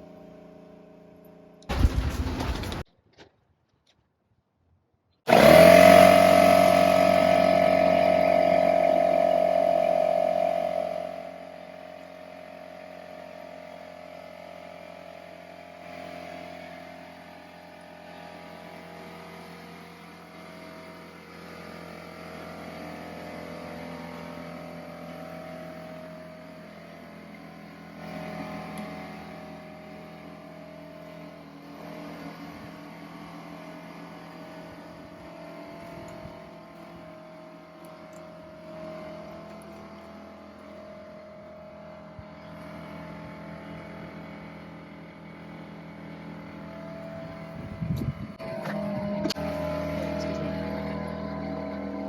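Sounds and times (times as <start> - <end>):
air compressor humming: 5.3 - 52.0.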